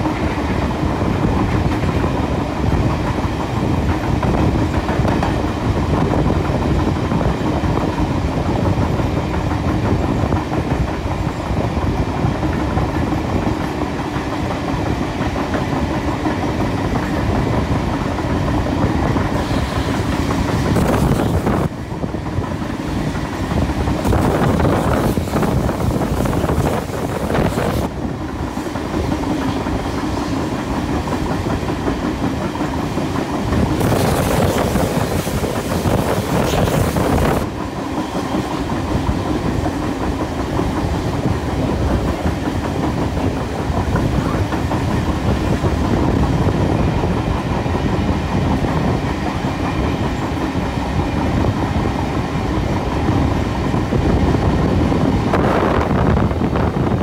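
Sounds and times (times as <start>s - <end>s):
train wheels rumbling and clicking: 0.0s - 57.0s
wind buffeting microphone: 0.0s - 57.0s.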